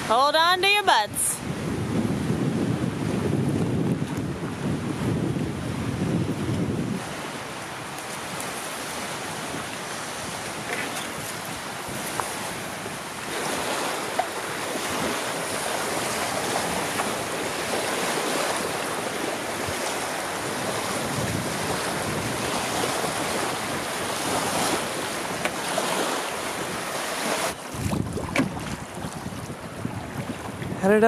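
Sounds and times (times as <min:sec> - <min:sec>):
strong wind rushing: 0:01.3 - 0:31.0.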